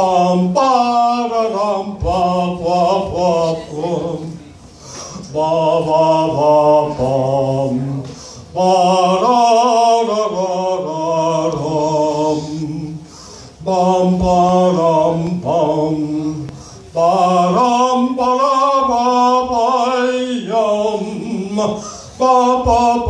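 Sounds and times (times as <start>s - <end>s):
man singing held notes: 0.0s - 23.0s.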